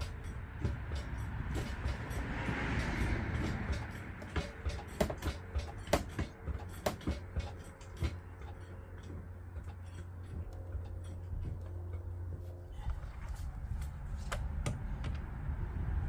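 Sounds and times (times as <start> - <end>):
sharp clicks and knocks: 0.0 - 13.1
steady low hum: 0.0 - 16.0.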